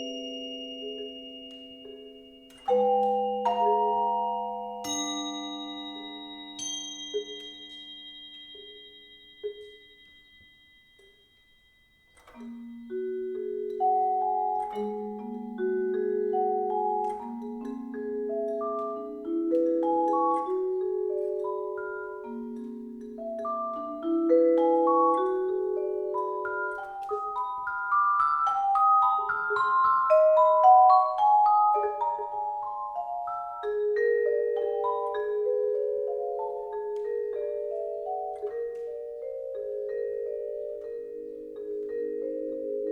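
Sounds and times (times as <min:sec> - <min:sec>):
marimbas playing sustained notes: 0:00.0 - 0:11.3, 0:12.3 - 0:42.9
vibraphone playing sustained notes: 0:00.0 - 0:42.9.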